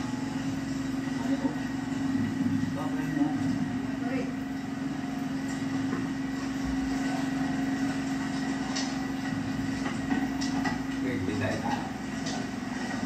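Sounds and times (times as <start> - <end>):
engine drone through tv speaker: 0.0 - 13.0.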